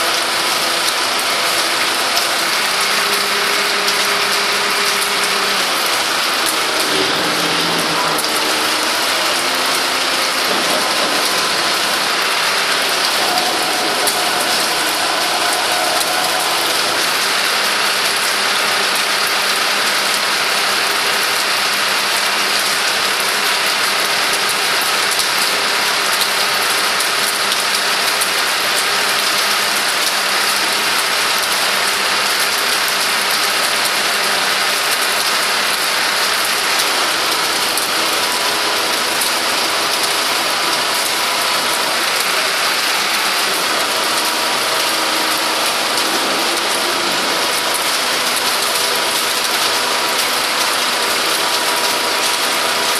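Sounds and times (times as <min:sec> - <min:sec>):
rain on wet paving: 0:00.0 - 0:52.9.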